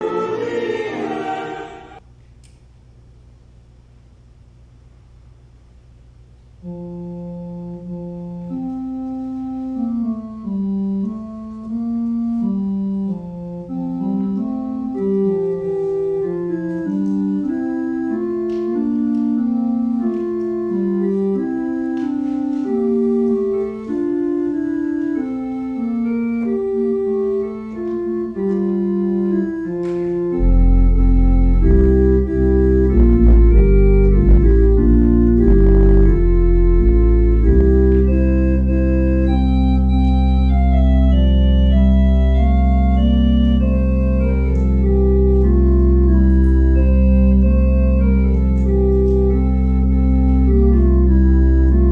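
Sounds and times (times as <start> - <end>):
organ music: 0.0 - 2.0, 6.6 - 51.9.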